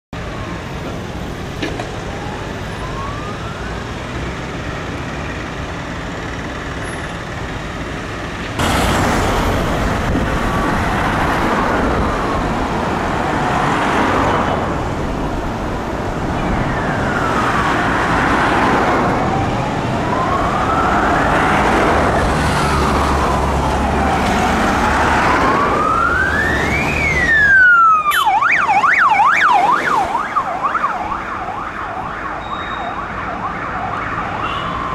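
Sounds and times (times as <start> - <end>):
road traffic: 0.1 - 34.9
fire vehicle siren: 0.2 - 4.9, 8.6 - 34.9.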